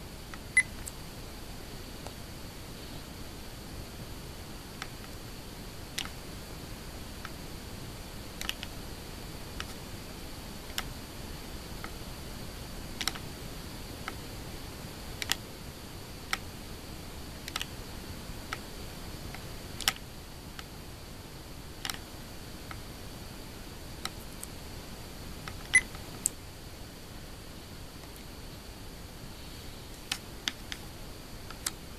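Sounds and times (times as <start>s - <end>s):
faint hiss: 0.0s - 31.9s.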